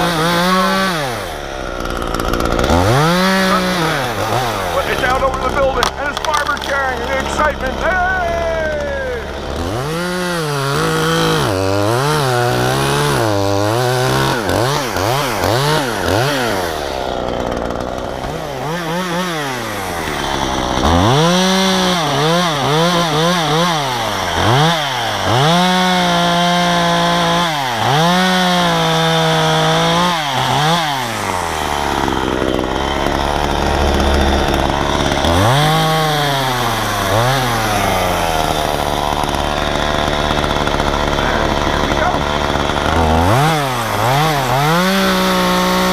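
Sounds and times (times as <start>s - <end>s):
chainsaw revving and cutting wood: 0.0s - 45.9s.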